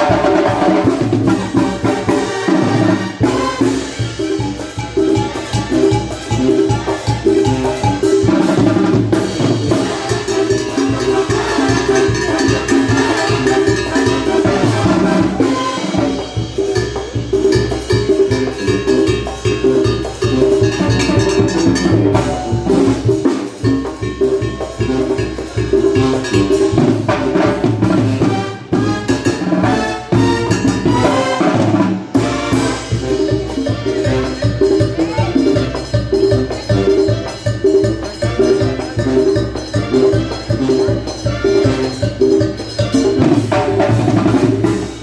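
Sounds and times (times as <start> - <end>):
live band playing dance music: 0.0 - 45.0.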